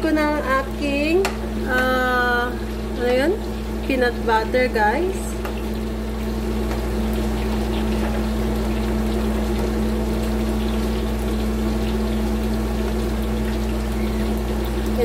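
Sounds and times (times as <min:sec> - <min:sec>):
food sizzling in oil: 0:00.0 - 0:15.0
steady low hum: 0:00.0 - 0:15.0.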